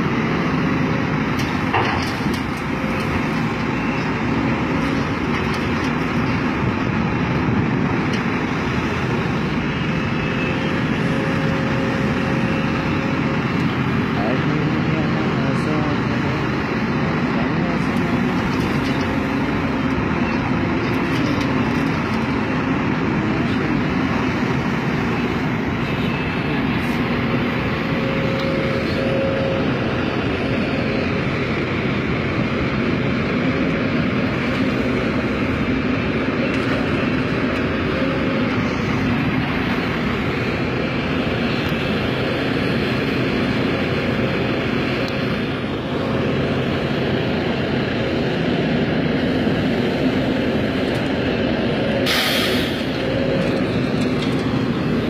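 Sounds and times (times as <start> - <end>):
excavator diesel engine under load: 0.0 - 55.0.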